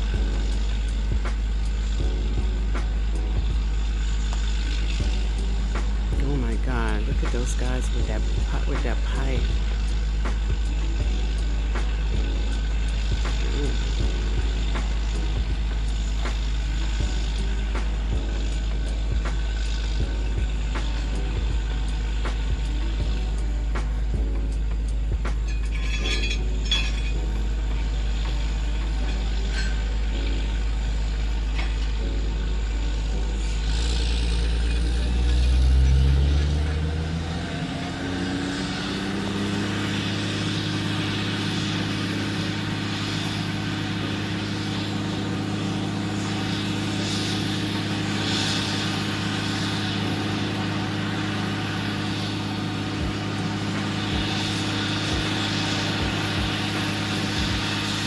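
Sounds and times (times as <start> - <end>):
drilling rig engine under load: 0.0 - 58.0.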